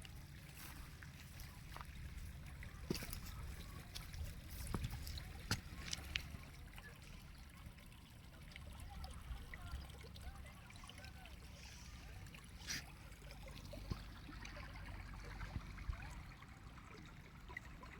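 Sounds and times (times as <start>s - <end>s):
small stream trickling: 0.0s - 17.9s.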